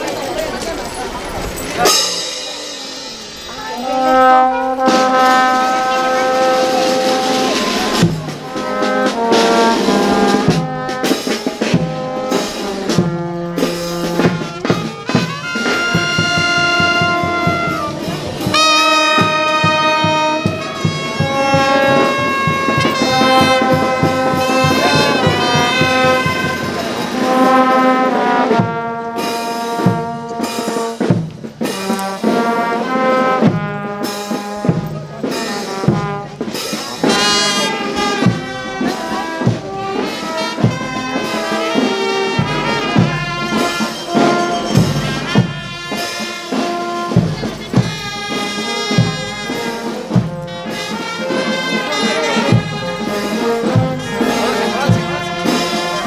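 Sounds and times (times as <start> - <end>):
brass band playing a melody: 0.0 - 56.0
steady percussion beat: 0.1 - 56.0.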